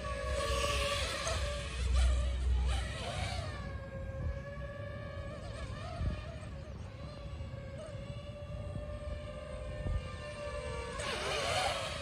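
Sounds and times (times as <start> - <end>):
drone propellers whining: 0.0 - 12.0
wind rumbling on microphone: 0.0 - 12.0.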